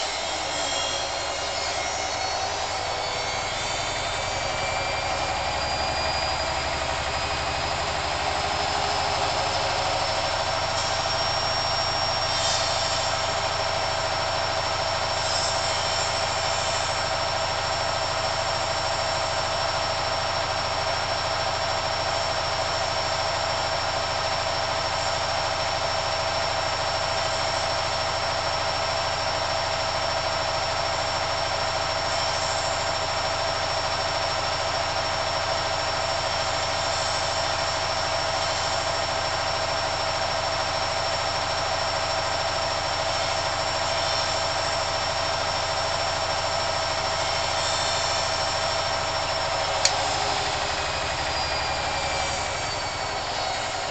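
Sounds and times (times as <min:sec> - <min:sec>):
high-pitched motor whine: 0:00.0 - 0:53.9
washing machine spinning: 0:00.0 - 0:53.9.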